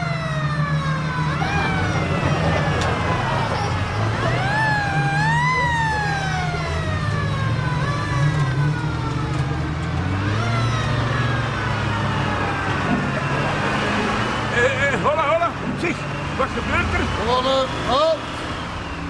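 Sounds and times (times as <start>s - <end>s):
heavy truck engines running: 0.0s - 19.0s
siren wailing: 0.0s - 19.0s.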